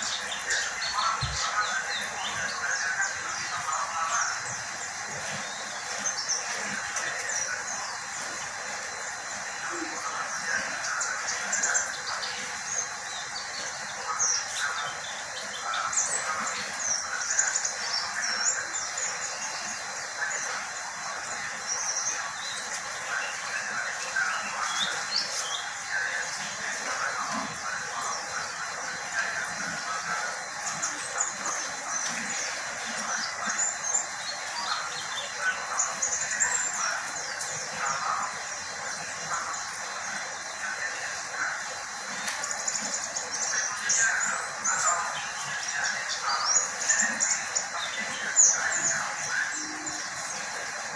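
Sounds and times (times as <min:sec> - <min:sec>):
bird chirping and twittering: 0:00.0 - 0:50.9
steady rushing background noise: 0:00.0 - 0:50.9.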